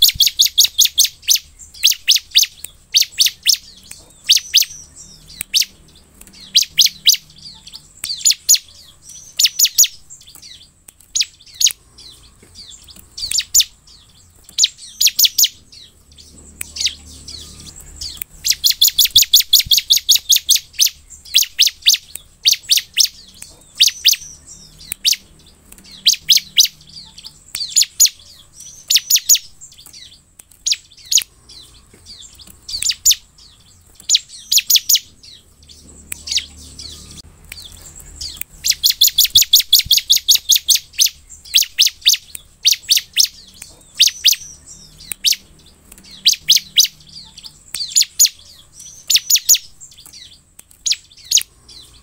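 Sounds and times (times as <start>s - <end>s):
bird singing high chip notes: 0.0s - 52.0s.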